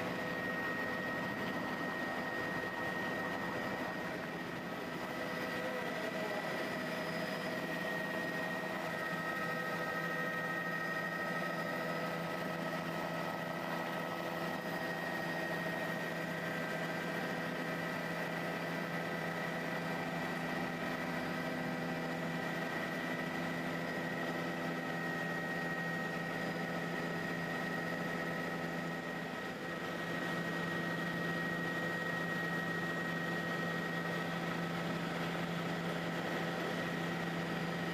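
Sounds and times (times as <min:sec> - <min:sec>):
helicopter engine and rotors: 0:00.0 - 0:37.9.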